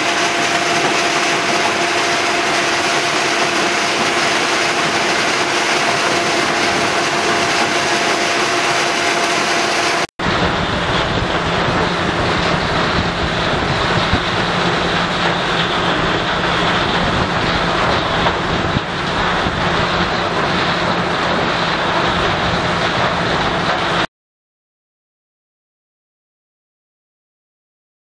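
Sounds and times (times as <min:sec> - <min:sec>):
vibrating screen: 0:00.0 - 0:24.0
conveyor carrying crushed rock: 0:00.0 - 0:24.1
machinery hum: 0:00.0 - 0:24.1.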